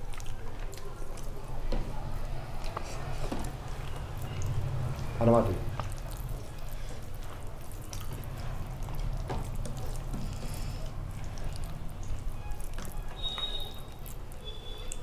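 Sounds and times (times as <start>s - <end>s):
fingers squishing soft rice: 2.3s - 15.0s.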